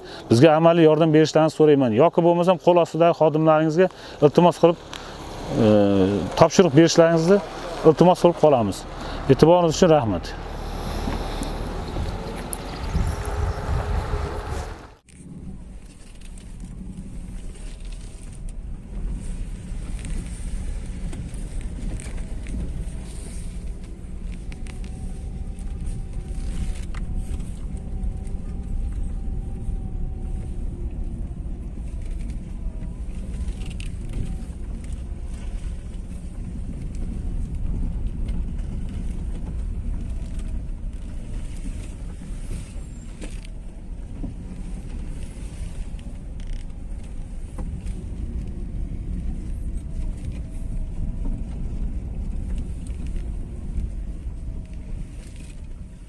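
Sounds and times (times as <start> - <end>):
engine and tyres rumbling: 0.0 - 56.0.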